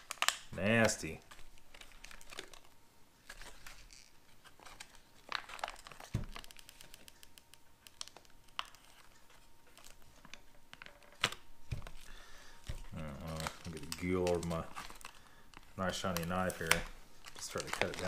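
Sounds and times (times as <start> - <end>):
foil wrapper crinkling: 0.0 - 18.0.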